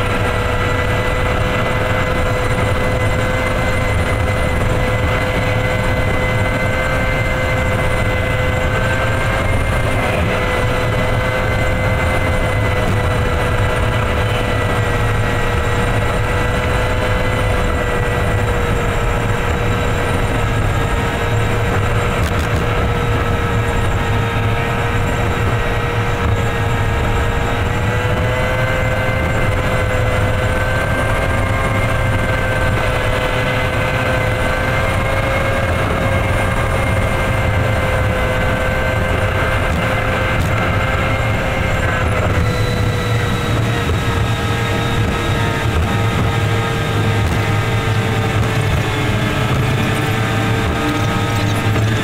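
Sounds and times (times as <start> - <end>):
truck engine drone and whine: 0.0 - 52.0.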